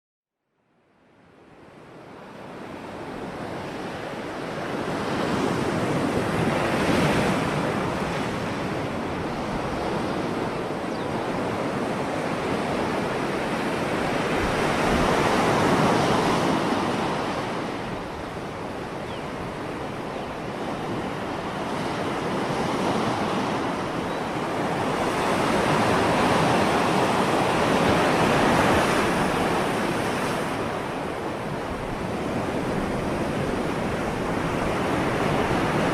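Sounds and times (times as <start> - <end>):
ocean waves breaking: 2.1 - 35.9.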